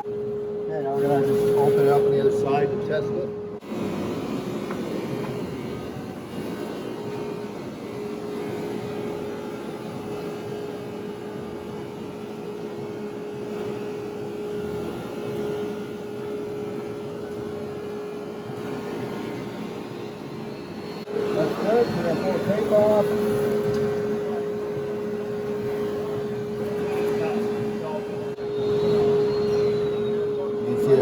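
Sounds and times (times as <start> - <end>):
steady machinery hum: 0.0 - 31.0.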